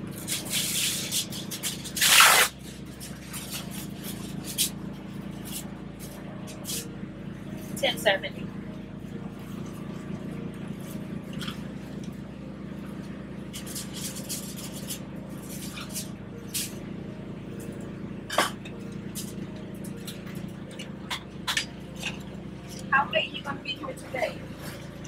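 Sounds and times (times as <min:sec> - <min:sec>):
low equipment hum: 0:00.0 - 0:25.0.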